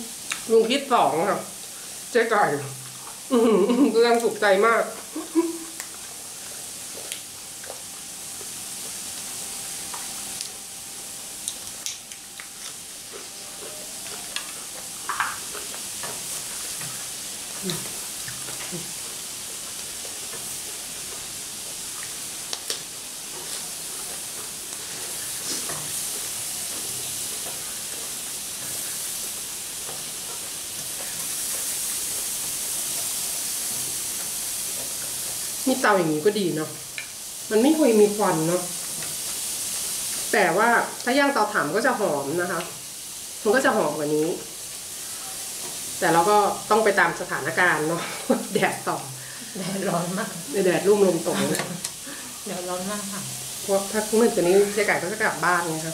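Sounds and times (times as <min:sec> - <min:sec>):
squid sizzling on grill: 0:00.0 - 0:55.9.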